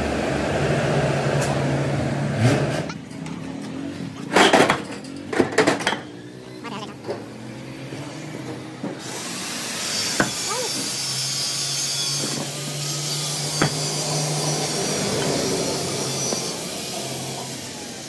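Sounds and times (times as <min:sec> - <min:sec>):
power tool grinding: 0:02.4 - 0:18.0.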